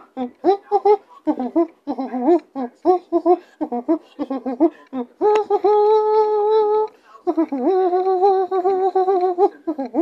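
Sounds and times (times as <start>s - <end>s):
person humming: 0.0s - 10.0s.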